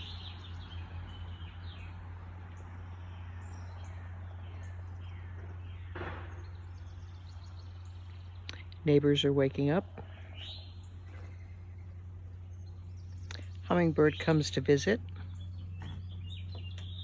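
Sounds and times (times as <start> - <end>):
garden birds chirping: 0.0 - 17.0
steady low hum: 0.0 - 17.0.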